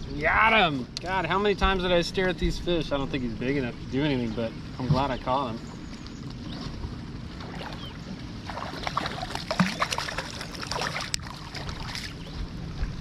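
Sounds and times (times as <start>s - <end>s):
low wind and water rumble: 0.0s - 13.0s.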